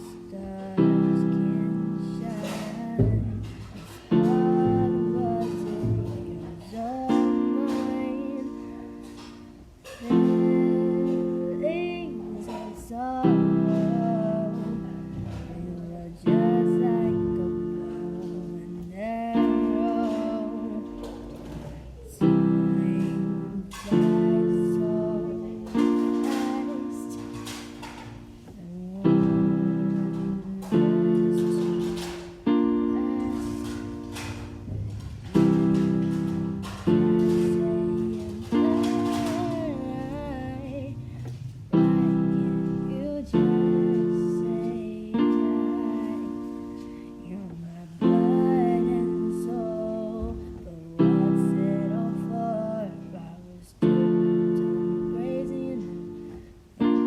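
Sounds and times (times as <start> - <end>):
piano chords: 0.0 - 57.0
woman singing quietly: 0.0 - 57.0.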